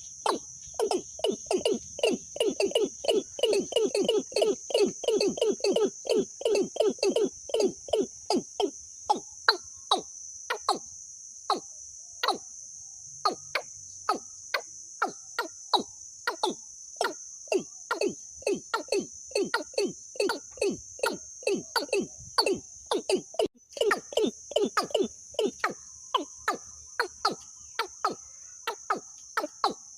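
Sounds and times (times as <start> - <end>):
high insect-like buzz: 0.0 - 29.9.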